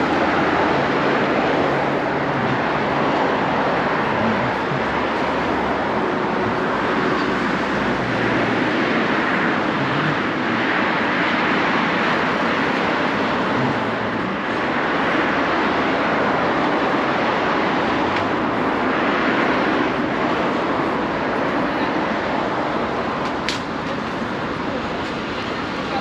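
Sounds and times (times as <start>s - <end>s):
city street traffic rush: 0.0s - 26.0s.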